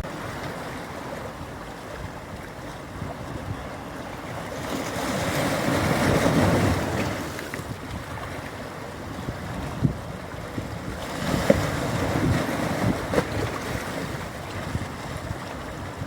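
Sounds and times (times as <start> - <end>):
sea waves breaking on beach: 0.0 - 16.0
wind on microphone: 0.0 - 16.0.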